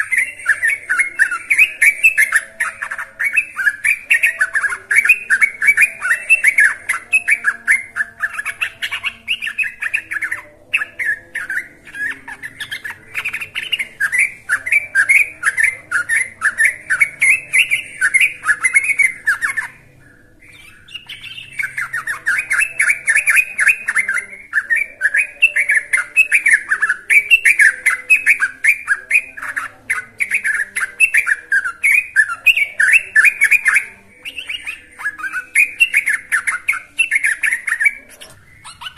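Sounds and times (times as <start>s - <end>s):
bulbul singing chattering notes: 0.0s - 38.9s.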